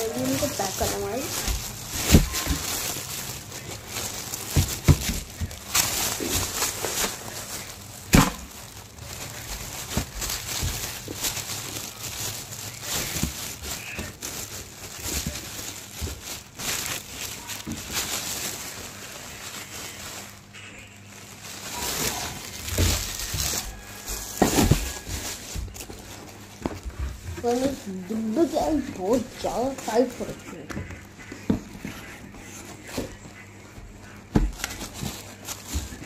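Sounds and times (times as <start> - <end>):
plastic bag crinkling: 0.0 - 36.0.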